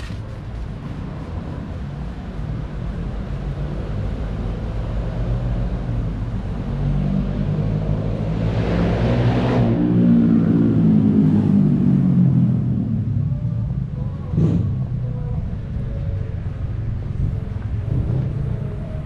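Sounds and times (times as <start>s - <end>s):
rush of passing vehicle: 0.0s - 19.0s.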